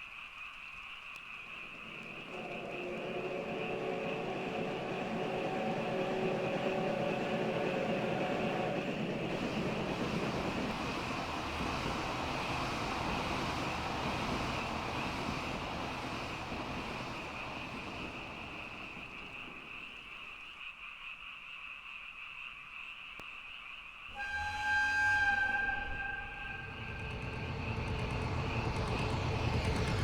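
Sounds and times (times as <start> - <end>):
train running by: 1.1 - 20.5, 24.1 - 30.0.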